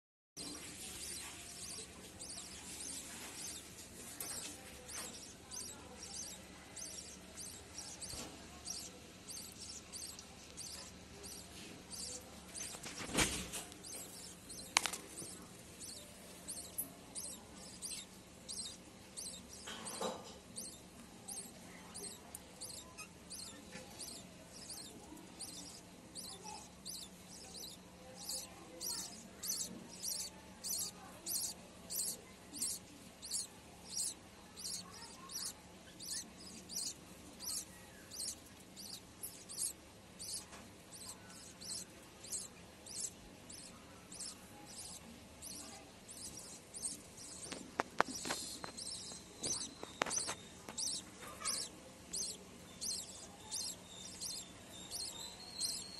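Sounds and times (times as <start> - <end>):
faint steady hum: 0.4 - 19.7, 20.3 - 55.9
bird chicks squeaking begging calls: 0.4 - 55.9.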